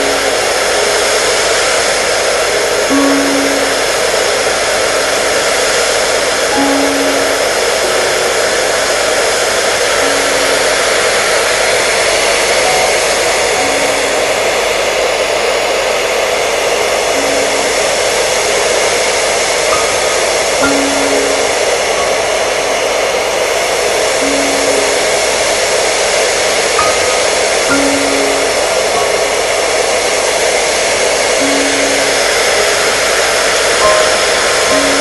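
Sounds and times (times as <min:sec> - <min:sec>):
hair dryer running: 0:00.0 - 0:35.0.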